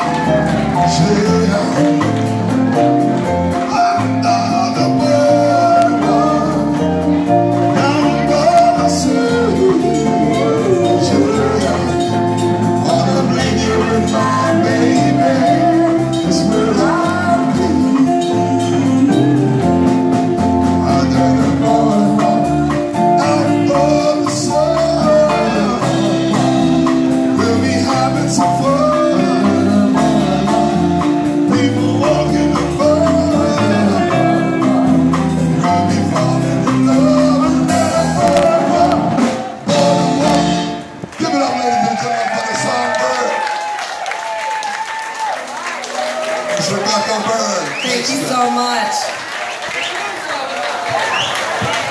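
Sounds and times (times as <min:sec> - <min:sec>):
man singing: 0:00.0 - 0:02.8, 0:03.5 - 0:43.5
guitar: 0:00.0 - 0:44.7
drums: 0:00.0 - 0:46.7, 0:47.6 - 0:51.9.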